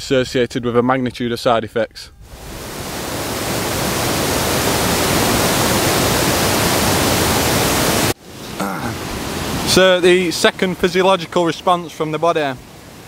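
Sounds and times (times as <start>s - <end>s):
water rushing over stone weir: 2.3s - 13.0s.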